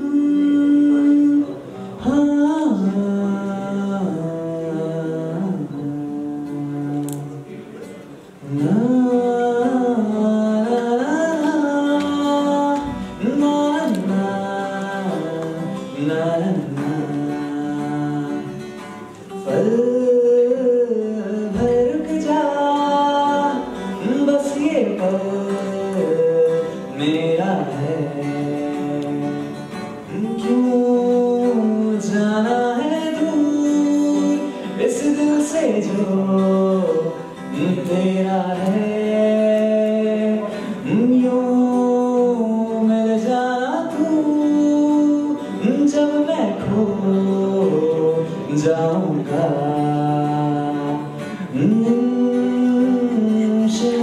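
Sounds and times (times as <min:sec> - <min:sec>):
acoustic guitar: 0:00.0 - 0:54.0
man singing: 0:00.0 - 0:54.0.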